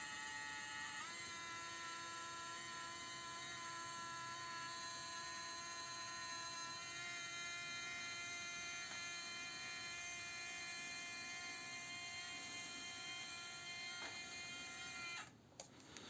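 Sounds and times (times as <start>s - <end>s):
small electric motor whining: 0.0s - 15.4s.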